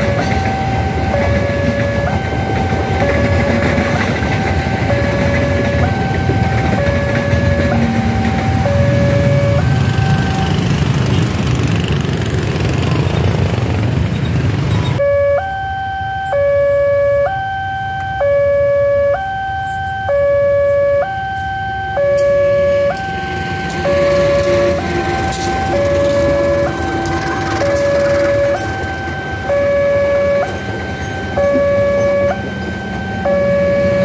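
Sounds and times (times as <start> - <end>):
two-tone crossing alarm: 0.0 - 12.4, 14.8 - 34.0
locomotive low hum: 0.0 - 15.8, 19.3 - 34.0.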